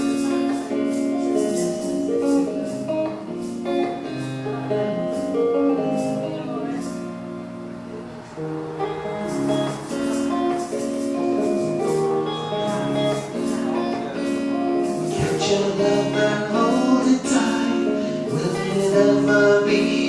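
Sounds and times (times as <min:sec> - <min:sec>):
live acoustic music: 0:00.0 - 0:20.0.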